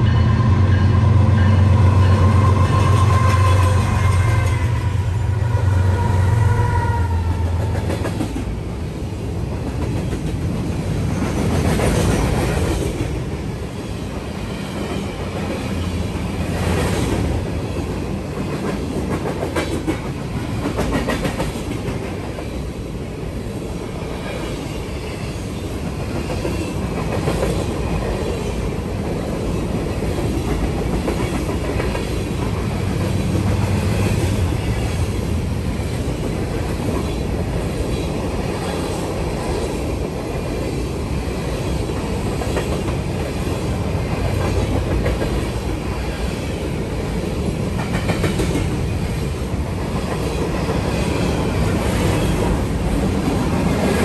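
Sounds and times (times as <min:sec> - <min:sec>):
diesel locomotive engine hum: 0:00.0 - 0:54.0
train cars rumbling: 0:00.0 - 0:54.0
wheels clacking on rails: 0:06.5 - 0:54.0.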